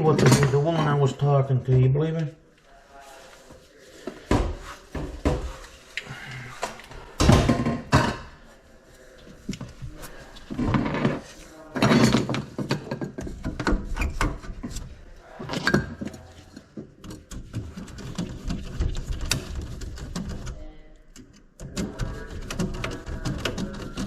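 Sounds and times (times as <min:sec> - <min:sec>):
knocking and scraping of pipes: 0:03.1 - 0:08.6, 0:09.2 - 0:24.0.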